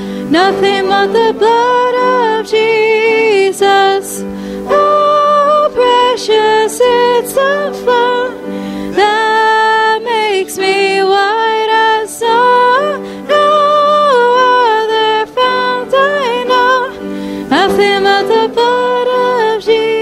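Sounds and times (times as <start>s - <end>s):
instrumental accompaniment: 0.0s - 20.0s
voices singing a hymn: 0.0s - 20.0s.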